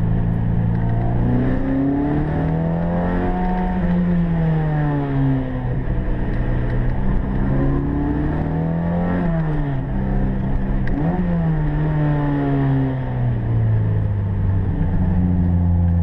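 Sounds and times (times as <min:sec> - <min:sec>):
race car engine revving: 0:00.0 - 0:13.5.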